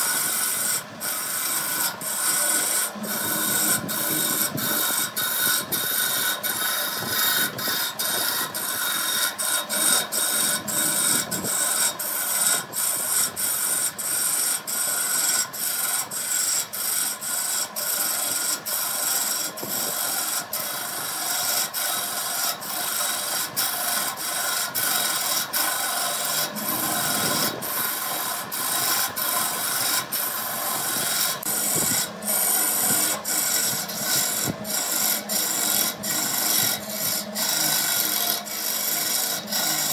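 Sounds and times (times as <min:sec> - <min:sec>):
power tool working wood: 0:00.0 - 0:39.9.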